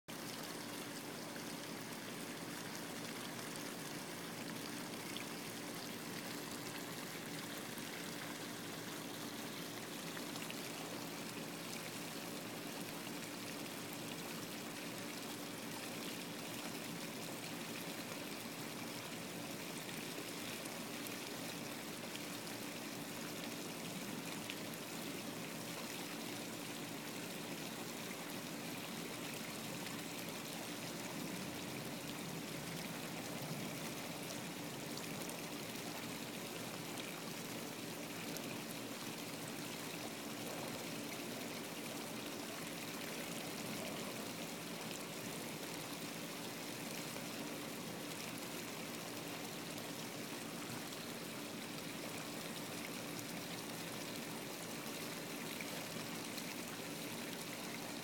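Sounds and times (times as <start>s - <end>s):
running water hiss: 0.1s - 58.0s.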